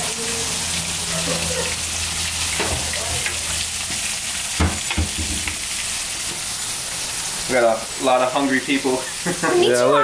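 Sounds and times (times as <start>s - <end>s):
fish sizzling in frying oil: 0.0s - 10.0s.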